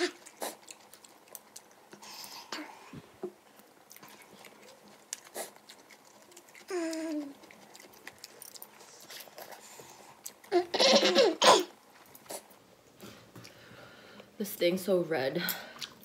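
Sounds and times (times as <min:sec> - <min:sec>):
soft chewing: 0:00.0 - 0:10.7, 0:11.7 - 0:14.4, 0:15.5 - 0:16.0.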